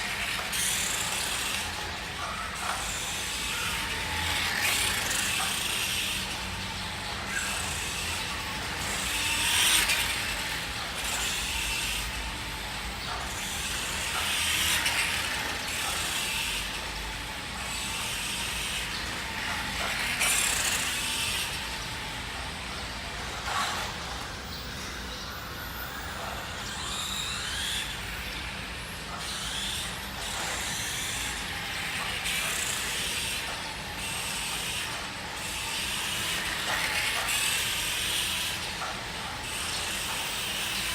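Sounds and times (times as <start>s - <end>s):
toy motorcycle motor whirring: 0.0s - 40.9s.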